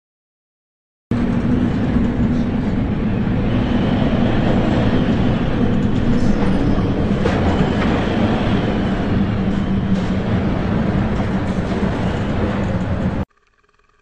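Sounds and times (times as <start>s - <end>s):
storm wind and heavy seas roaring: 1.1s - 13.3s.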